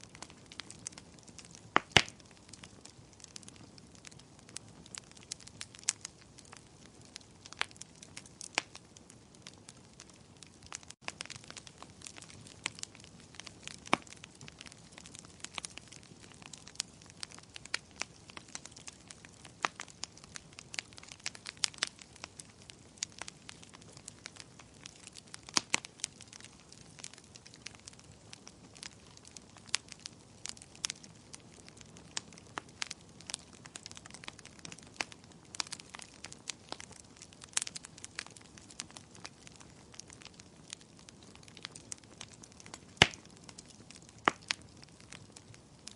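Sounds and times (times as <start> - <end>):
soft steady hiss: 0.0 - 45.9
wood fire crackling: 0.0 - 45.9.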